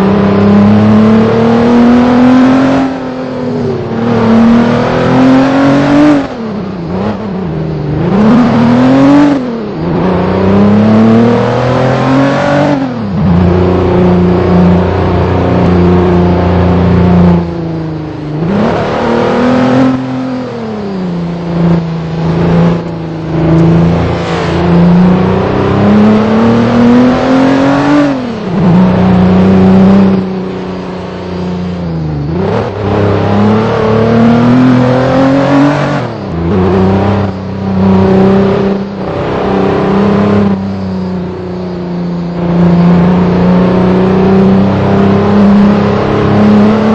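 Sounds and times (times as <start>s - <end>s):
vehicle engine revving offroad: 0.0s - 46.9s.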